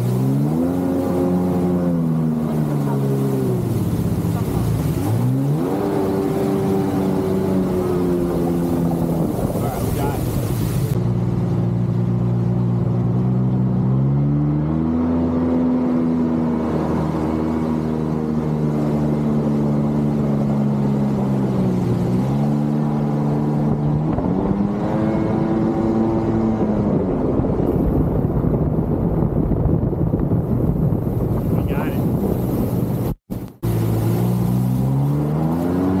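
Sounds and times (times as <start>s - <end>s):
jet ski engine running: 0.0s - 36.0s.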